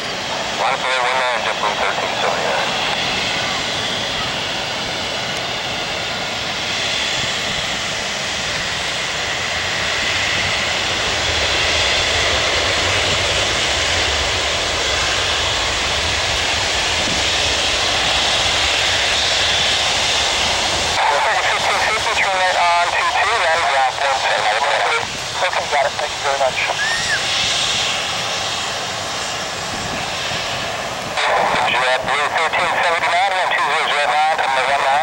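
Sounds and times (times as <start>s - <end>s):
jet engine rushing rumble: 0.0s - 35.0s.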